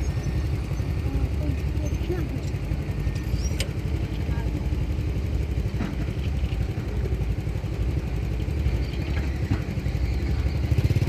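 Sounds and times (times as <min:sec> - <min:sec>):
engine idling low pulsing rumble: 0:00.0 - 0:11.0.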